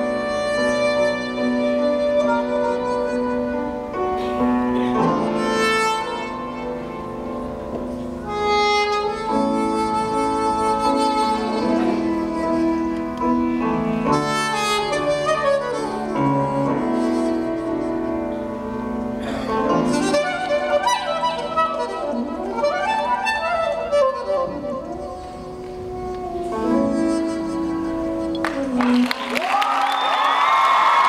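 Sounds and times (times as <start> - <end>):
soprano saxophone solo melody: 0.0 - 29.4.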